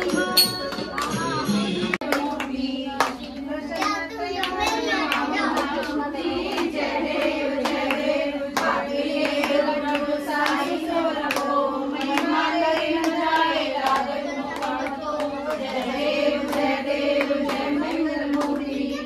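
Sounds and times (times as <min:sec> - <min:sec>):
hand clapping: 0:00.0 - 0:18.7
voices singing devotional song: 0:00.0 - 0:19.0.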